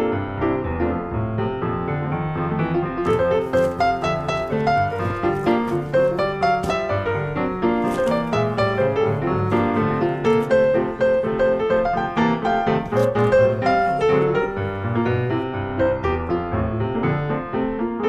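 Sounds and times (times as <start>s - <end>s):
piano piece: 0.0s - 18.0s.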